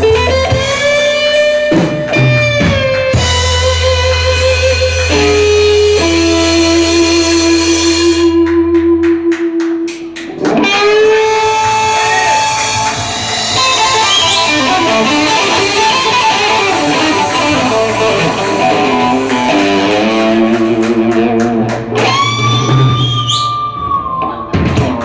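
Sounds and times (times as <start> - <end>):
electric guitar playing slow blues: 0.0 - 25.0.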